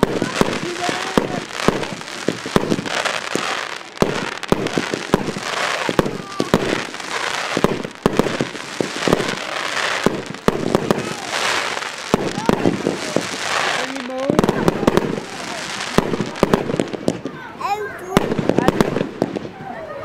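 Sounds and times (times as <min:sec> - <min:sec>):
crackling hiss of fireworks: 0:00.0 - 0:20.0.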